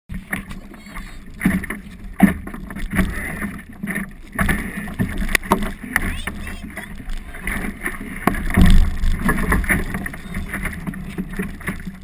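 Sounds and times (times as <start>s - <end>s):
water splashing against boat hull: 0.1s - 12.0s.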